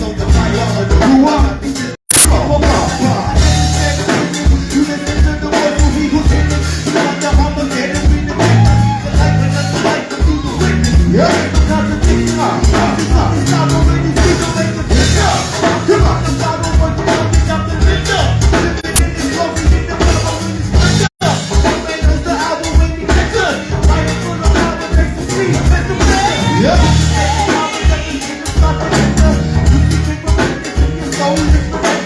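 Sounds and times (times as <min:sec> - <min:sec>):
bass line: 0:00.0 - 0:31.9
person singing: 0:00.0 - 0:32.0.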